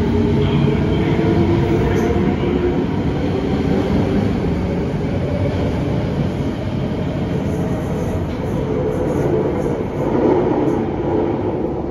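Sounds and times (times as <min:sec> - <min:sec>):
train humming on rails: 0:00.0 - 0:11.9.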